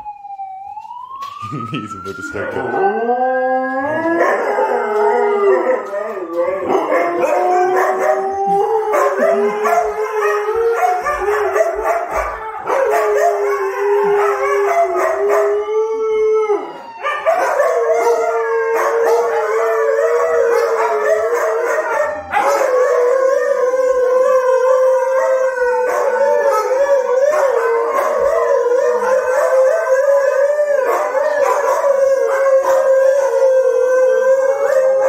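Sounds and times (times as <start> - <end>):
police siren: 0.0 - 35.0
dogs howling in chorus: 2.4 - 35.0.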